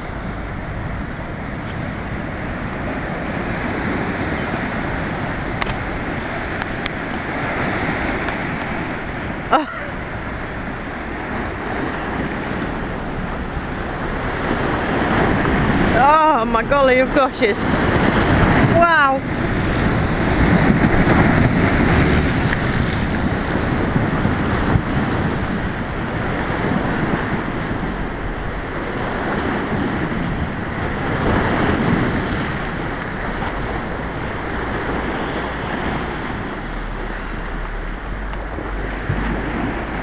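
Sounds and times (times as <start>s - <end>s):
water washing against bank: 0.0s - 40.0s
wind rumble on microphone: 0.0s - 40.0s.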